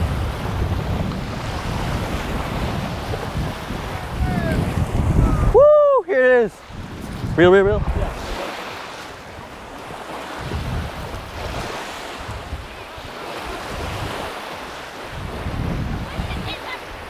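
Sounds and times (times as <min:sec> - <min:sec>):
small waves washing on shore: 0:00.0 - 0:17.0
wind on microphone: 0:00.0 - 0:17.0.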